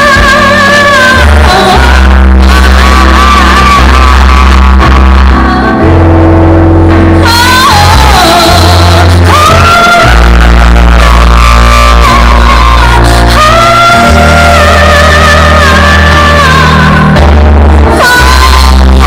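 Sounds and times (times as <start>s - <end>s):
bass: 0.0s - 19.0s
keyboards: 0.0s - 19.0s
live rock band: 0.0s - 19.0s.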